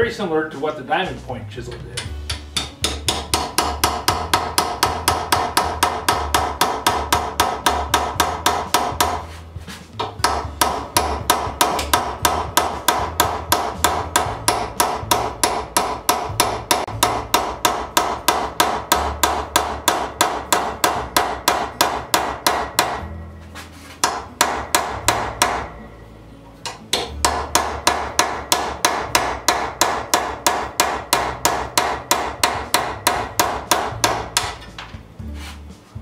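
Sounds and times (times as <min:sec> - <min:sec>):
hammer tapping chisel on steel: 0:01.7 - 0:09.2, 0:10.0 - 0:23.2, 0:24.0 - 0:25.9, 0:26.6 - 0:35.0.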